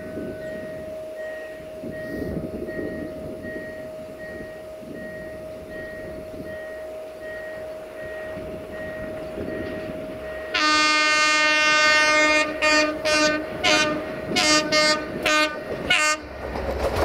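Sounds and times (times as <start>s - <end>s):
steady electronic warning tone: 0.0s - 16.2s
locomotive engine rumble: 0.0s - 17.0s.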